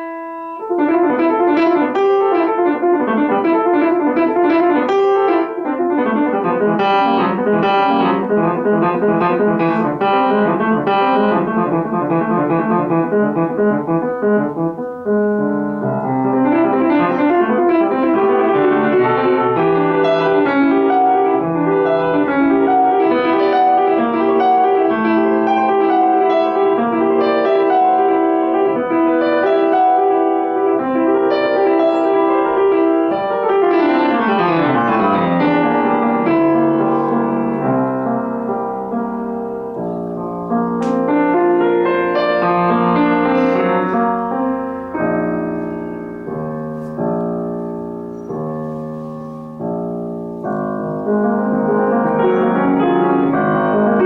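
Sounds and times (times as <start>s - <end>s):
solo piano classical piece: 0.0s - 54.0s.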